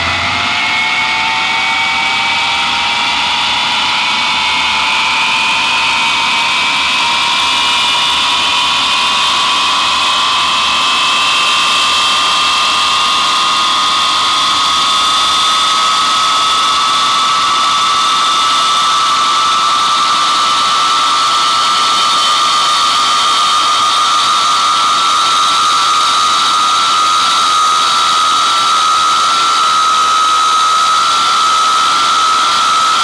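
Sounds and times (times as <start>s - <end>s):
jet engines whining and roaring: 0.0s - 33.0s.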